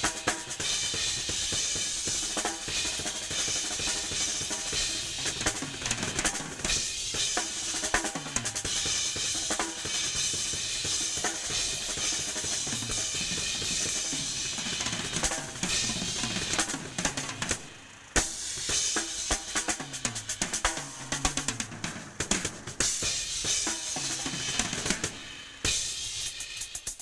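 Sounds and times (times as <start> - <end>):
drum kit solo: 0.0 - 27.0.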